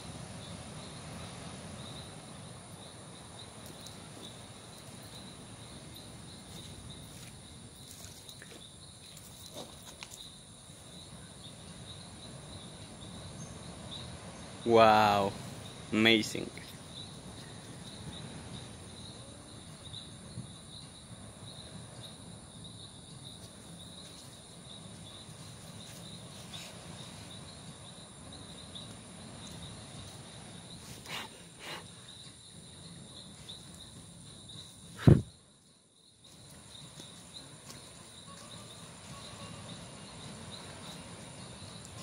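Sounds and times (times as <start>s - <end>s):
background hiss: 0.0s - 42.0s
crickets chirping: 0.0s - 42.0s.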